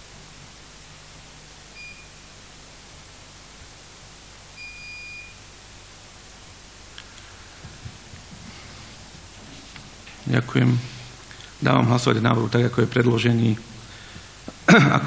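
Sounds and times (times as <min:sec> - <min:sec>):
steady hiss and low hum: 0:00.0 - 0:15.0.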